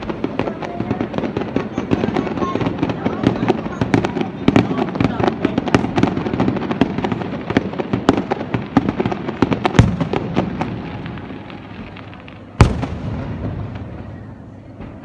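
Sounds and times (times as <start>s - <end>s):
fireworks crackling and popping: 0.0s - 15.0s
loud firework bang: 0.0s - 15.0s.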